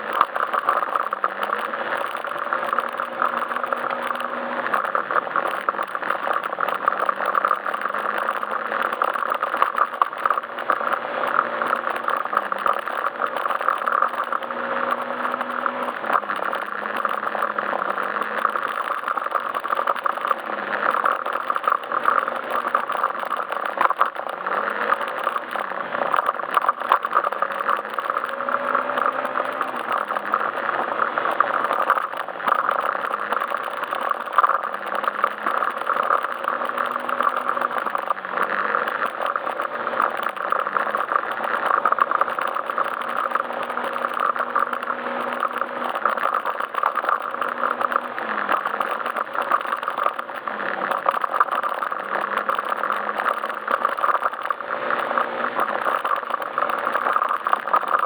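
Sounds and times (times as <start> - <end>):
rush and rattle of riding: 0.0 - 58.0
scooter engine revving: 0.0 - 58.0.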